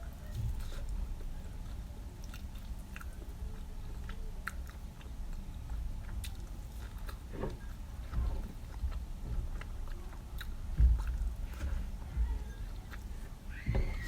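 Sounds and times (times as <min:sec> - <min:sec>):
person chewing and biting food: 0:00.1 - 0:14.0.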